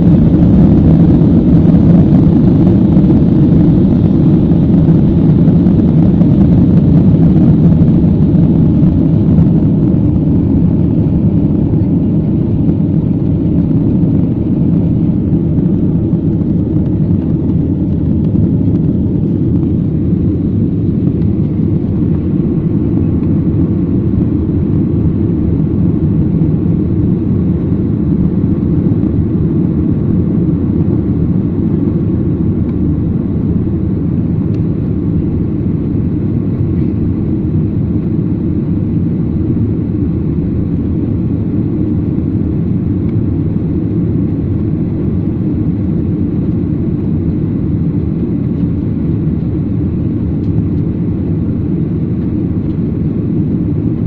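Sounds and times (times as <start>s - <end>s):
airliner engine noise in cabin: 0.0s - 54.0s.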